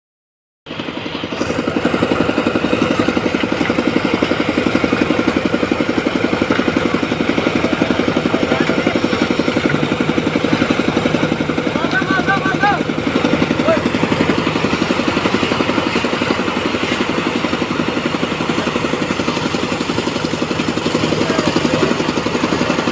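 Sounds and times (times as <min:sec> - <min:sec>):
small engine running: 0:00.7 - 0:22.9.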